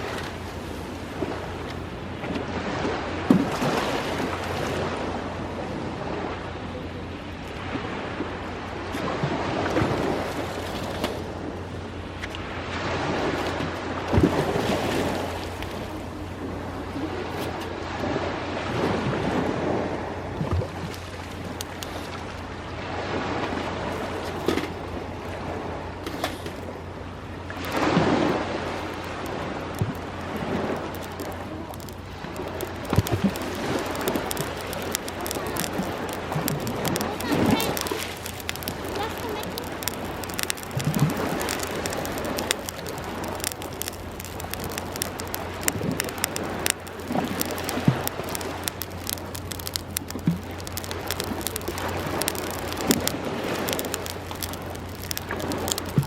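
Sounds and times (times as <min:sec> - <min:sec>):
campfire pops and crackles: 0:00.0 - 0:17.8, 0:18.8 - 0:56.0
sea waves washing in: 0:00.0 - 0:56.0.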